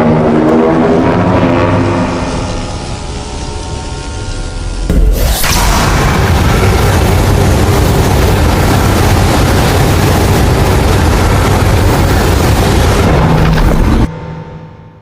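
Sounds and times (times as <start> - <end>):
deep rumbling roar: 0.0 - 14.1.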